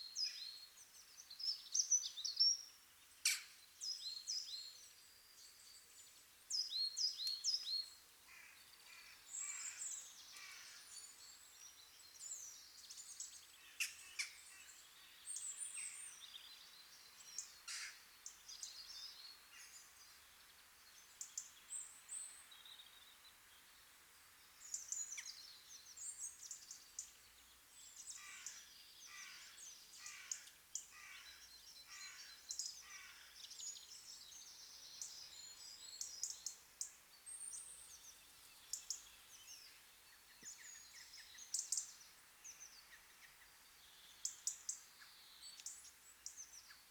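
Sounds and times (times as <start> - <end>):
faint steady hiss: 0.0 - 46.9
small birds chirping: 0.0 - 46.9.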